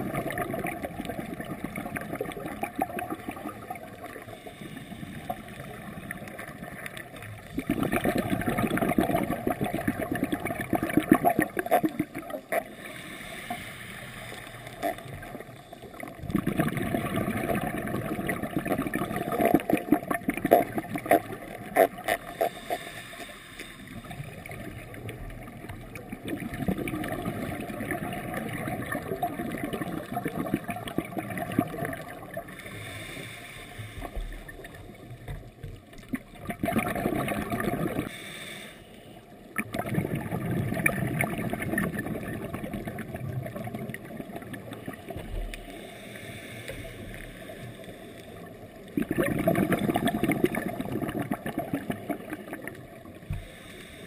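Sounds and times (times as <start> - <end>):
scuba exhaust bubbles gurgling: 0.0 - 38.5, 39.3 - 54.0.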